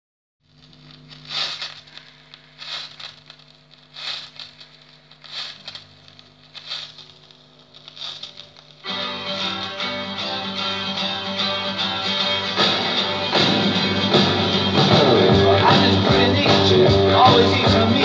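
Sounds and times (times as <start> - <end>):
vinyl surface crackle: 0.4 - 15.0
steady low hum: 0.4 - 16.1.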